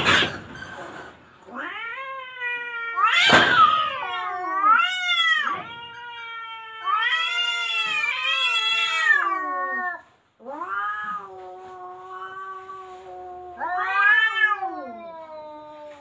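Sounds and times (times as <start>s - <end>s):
cats caterwauling: 1.4s - 16.0s.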